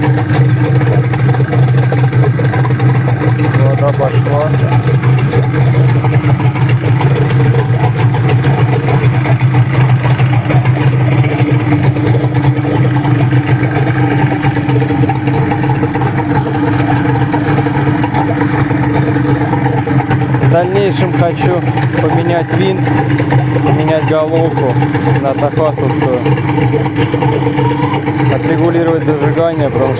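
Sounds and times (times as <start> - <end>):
outboard motor idling: 0.0 - 29.9.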